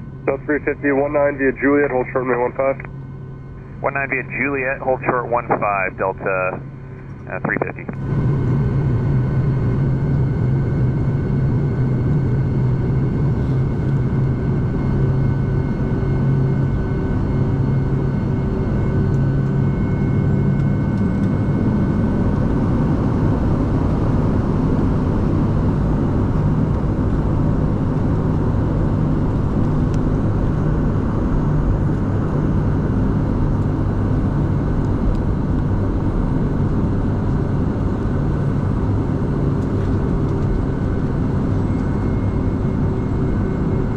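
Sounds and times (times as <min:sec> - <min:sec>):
aircraft engines humming and whining: 0:00.0 - 0:43.9.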